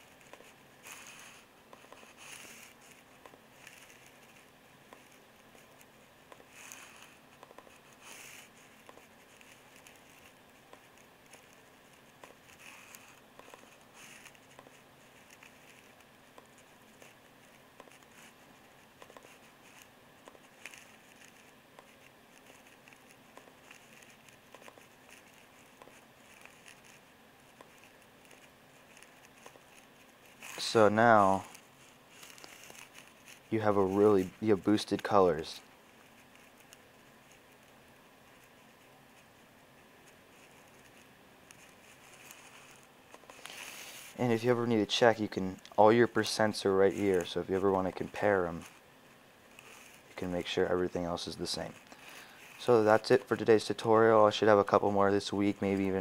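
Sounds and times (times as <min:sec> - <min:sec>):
faint room hiss: 0:00.0 - 0:56.0.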